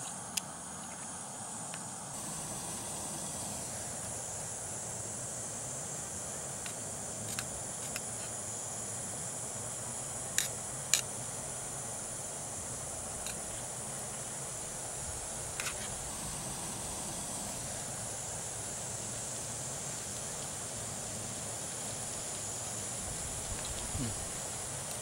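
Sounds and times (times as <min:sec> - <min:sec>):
camp stove hissing: 0:00.0 - 0:25.0.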